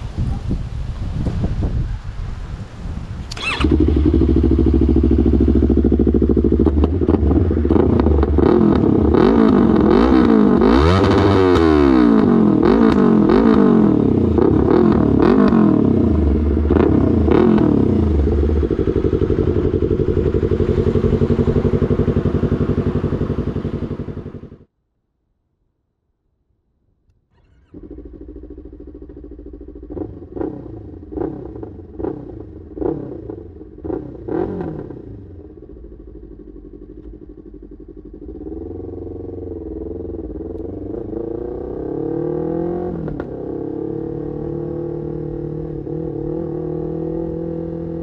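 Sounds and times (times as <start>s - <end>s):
motorcycle engine idling and revving: 3.3s - 24.7s, 27.3s - 48.0s.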